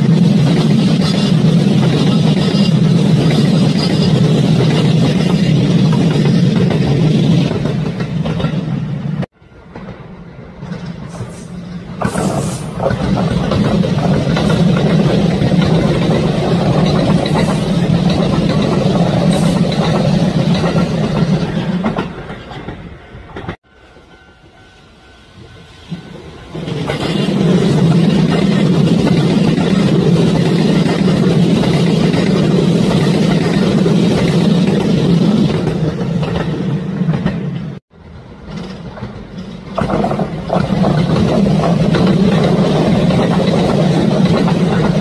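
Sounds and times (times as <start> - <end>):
electric train passing on rails: 0.0 - 45.0.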